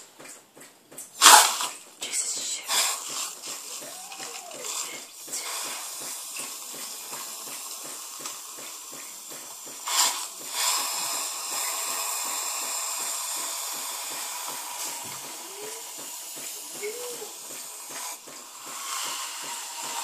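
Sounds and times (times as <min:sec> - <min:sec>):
air duster spraying hiss: 0:01.2 - 0:20.0.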